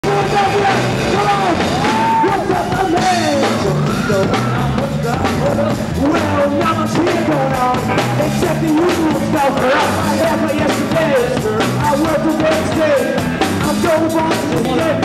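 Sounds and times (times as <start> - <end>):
bass guitar: 0.0 - 15.0
drums: 0.0 - 15.0
electric guitar: 0.0 - 15.0
man singing: 0.0 - 15.0.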